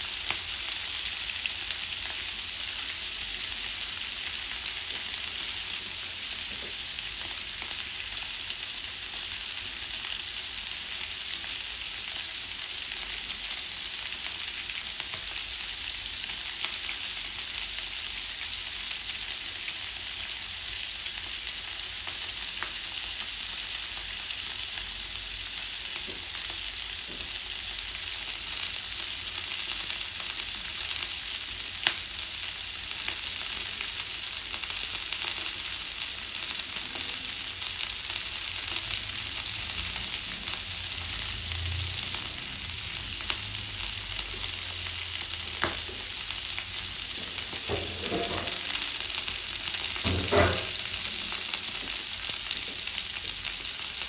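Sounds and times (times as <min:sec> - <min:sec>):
vegetables sizzling in a frying pan: 0:00.0 - 0:54.0.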